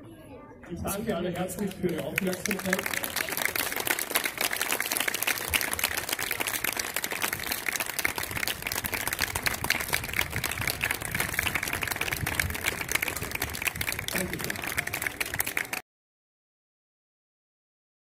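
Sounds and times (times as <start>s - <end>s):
audience applause: 0.9s - 15.8s.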